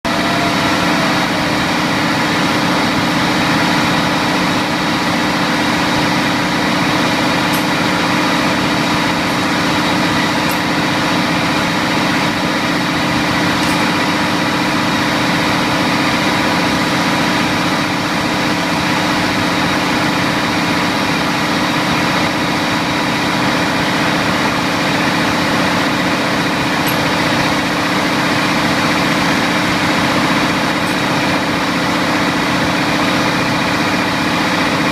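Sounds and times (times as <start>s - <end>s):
engine room machinery drone: 0.0s - 34.9s.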